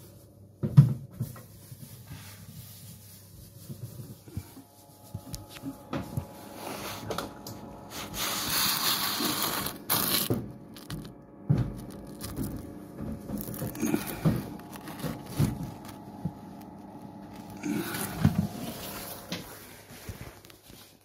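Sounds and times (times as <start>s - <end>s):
crunching and scraping handling noise: 0.0s - 21.0s.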